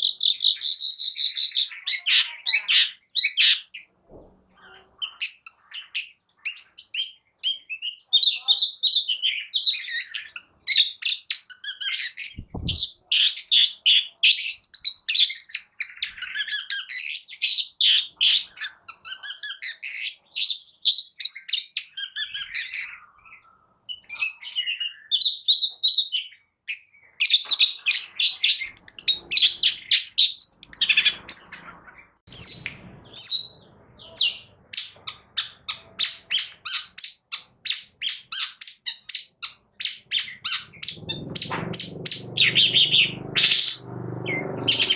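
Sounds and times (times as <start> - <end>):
bird singing chirps and twitters: 0.0 - 44.9.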